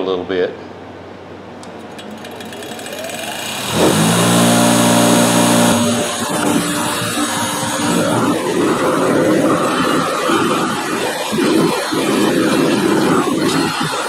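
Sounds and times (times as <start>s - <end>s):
bench grinder motor whine: 2.0s - 14.0s.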